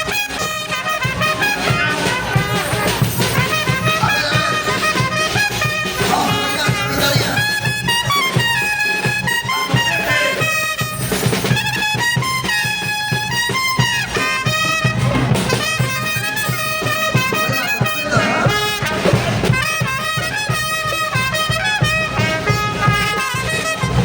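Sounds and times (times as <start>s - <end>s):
brass band with trumpets: 0.0s - 24.0s
steady drum beat: 0.0s - 24.0s.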